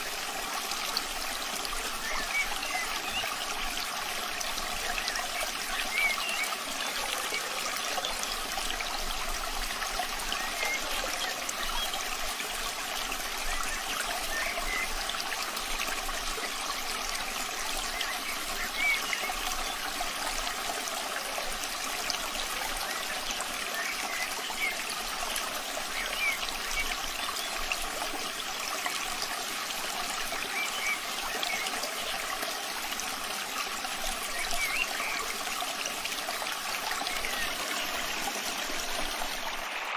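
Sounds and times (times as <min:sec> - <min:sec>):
trickling running water: 0:00.0 - 0:39.9.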